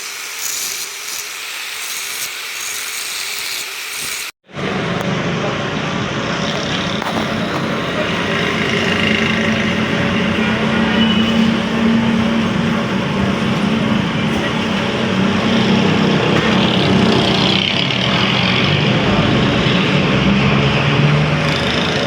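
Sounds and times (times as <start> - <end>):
workshop machine humming: 0.0 - 22.0.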